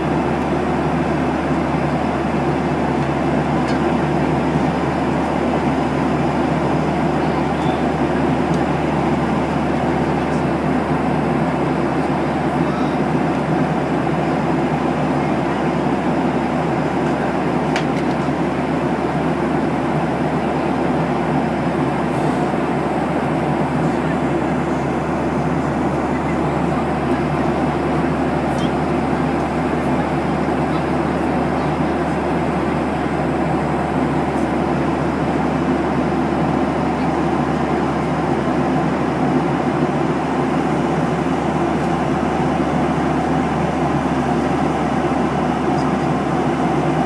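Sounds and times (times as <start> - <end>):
airliner cabin engine rush: 0.0 - 47.0.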